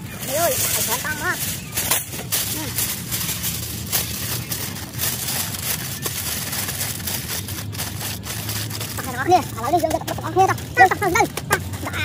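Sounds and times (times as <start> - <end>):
aluminium foil crinkling: 0.0 - 12.0
steady low rumble: 0.0 - 12.0.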